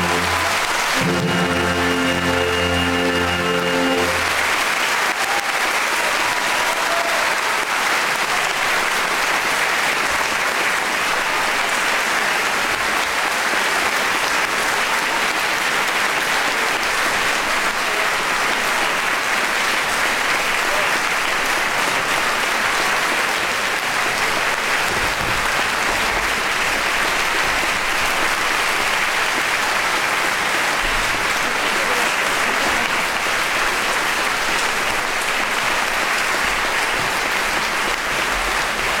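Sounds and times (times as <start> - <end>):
large audience applauding: 0.0 - 39.0.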